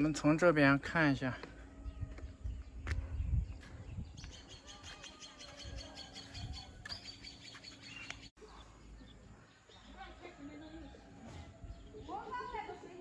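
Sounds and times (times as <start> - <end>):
small songbird chirping: 1.5 - 13.0.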